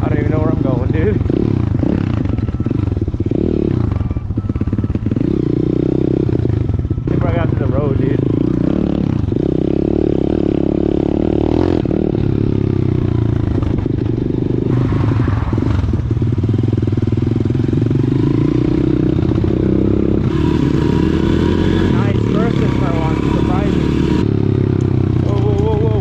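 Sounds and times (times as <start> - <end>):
pit bike engine running: 0.0 - 26.0.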